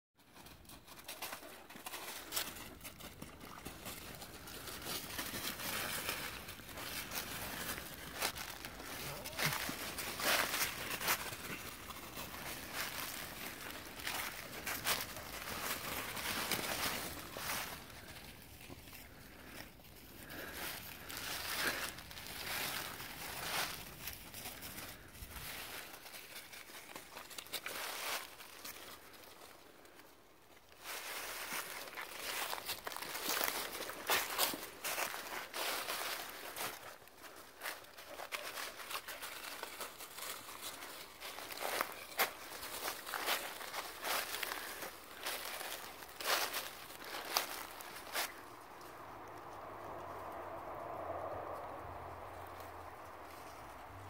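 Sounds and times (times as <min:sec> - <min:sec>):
footsteps crunching through dry leaves: 0:00.2 - 0:30.0, 0:30.6 - 0:50.3.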